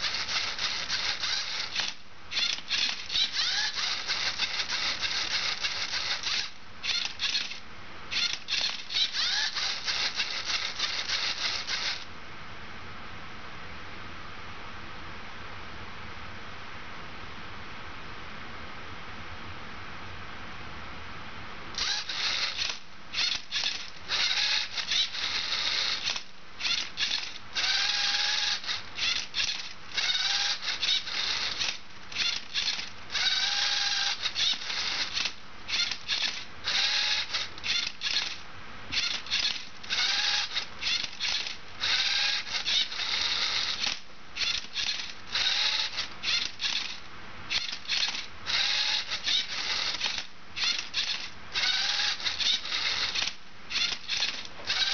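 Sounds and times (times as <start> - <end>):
robot motors whirring: 0.0 - 12.0, 21.8 - 54.9.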